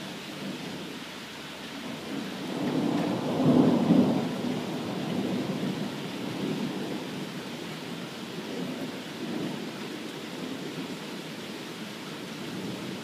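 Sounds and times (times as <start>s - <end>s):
rain falling on grass and brick: 0.0s - 13.0s.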